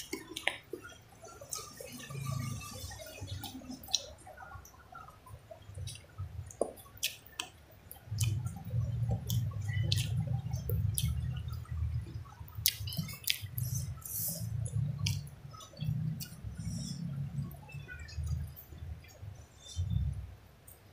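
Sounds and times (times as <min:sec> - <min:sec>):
person chewing with mouth clicks: 0:00.0 - 0:01.8, 0:03.0 - 0:04.1, 0:05.8 - 0:20.2.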